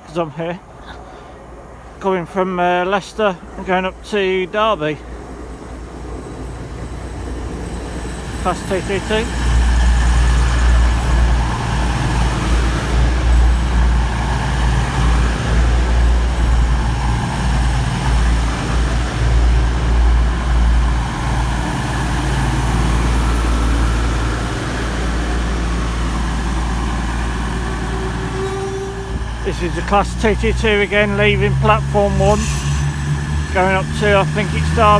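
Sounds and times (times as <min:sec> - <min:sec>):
train diesel engine rumbling: 0:00.0 - 0:34.9.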